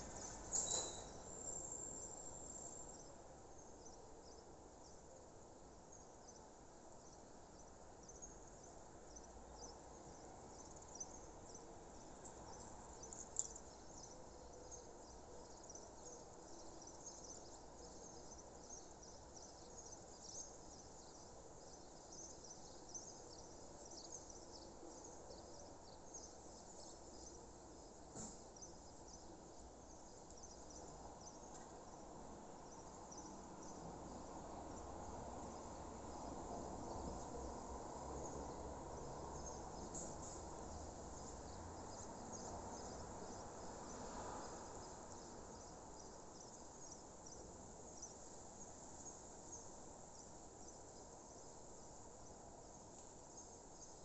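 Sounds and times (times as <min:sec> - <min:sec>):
low background hiss: 0:00.0 - 0:54.0.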